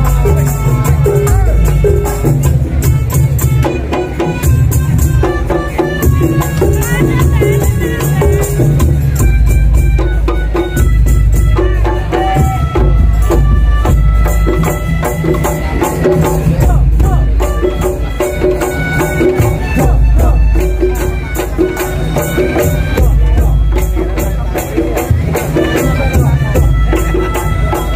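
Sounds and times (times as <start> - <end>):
fast rattling percussion: 0.0 - 27.9
heavy low drum beat: 0.0 - 27.9
melodica melody: 0.0 - 27.9.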